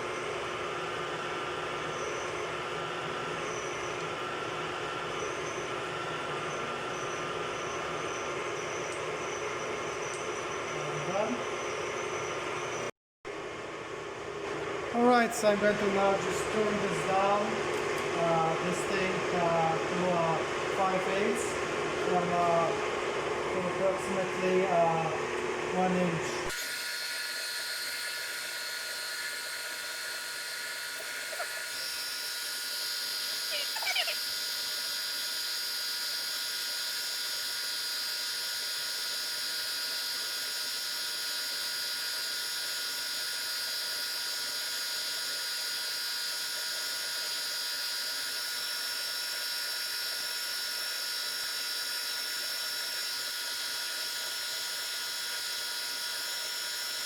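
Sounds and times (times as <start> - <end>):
metal lathe whining: 0.0 - 12.9, 15.8 - 57.0.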